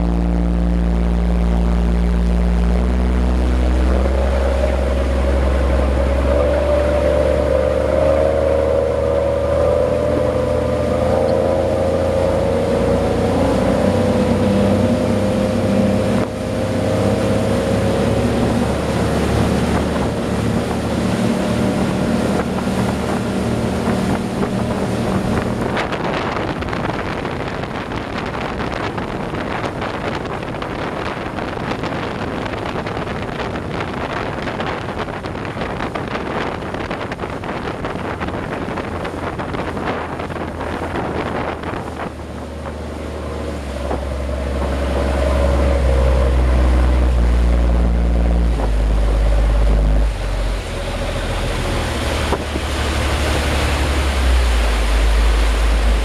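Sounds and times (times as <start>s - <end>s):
boat engine drone: 0.0s - 56.0s
rush of wake and wind: 0.0s - 56.0s.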